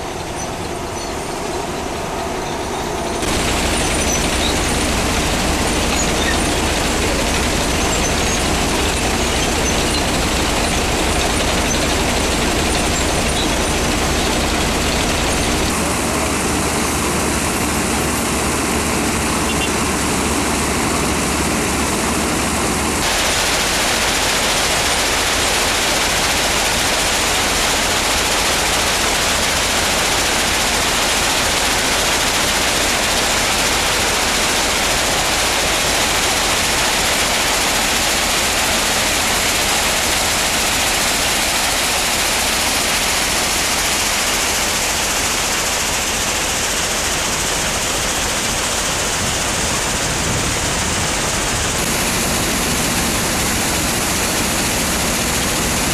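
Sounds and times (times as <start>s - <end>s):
water sprays hissing: 0.0s - 55.9s.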